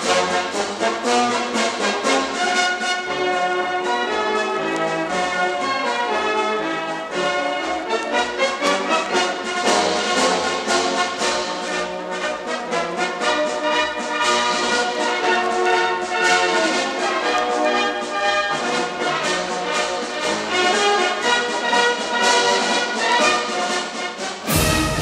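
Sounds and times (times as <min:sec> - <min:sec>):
brass band music: 0:00.0 - 0:25.0.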